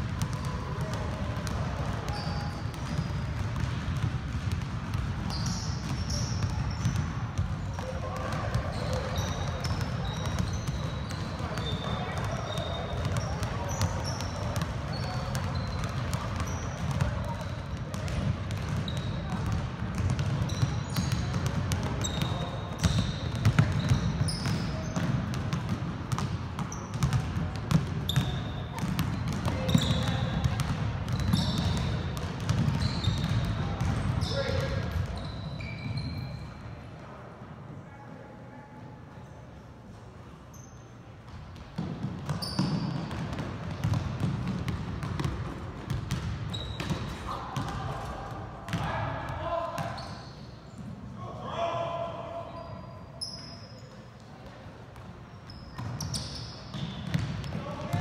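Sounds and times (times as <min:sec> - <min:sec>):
basketballs bouncing on wood floor: 0:00.0 - 0:36.2, 0:41.3 - 0:47.9, 0:48.7 - 0:49.0, 0:54.4 - 0:58.0
sneakers squeaking on court: 0:00.0 - 0:36.8, 0:40.5 - 0:47.8, 0:49.8 - 0:51.0, 0:52.5 - 0:58.0.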